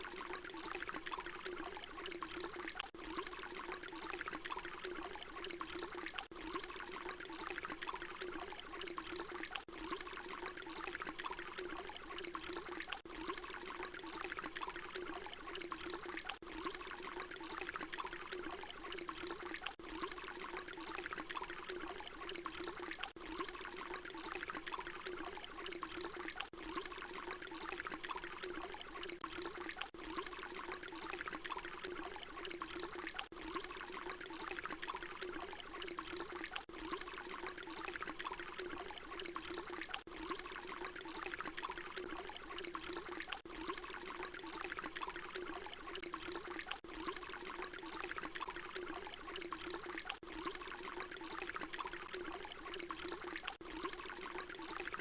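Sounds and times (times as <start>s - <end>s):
water pouring: 0.0s - 55.0s.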